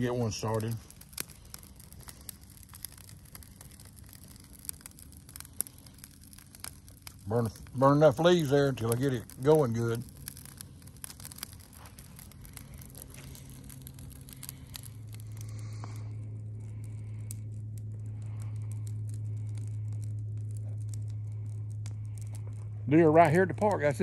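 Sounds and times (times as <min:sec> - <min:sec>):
campfire crackling and popping: 0:00.0 - 0:24.0
steady low hum: 0:00.0 - 0:24.0.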